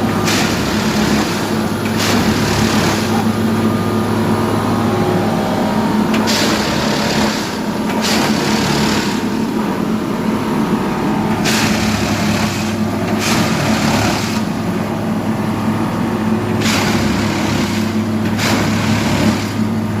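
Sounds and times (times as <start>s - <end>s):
train low hum: 0.0s - 20.0s.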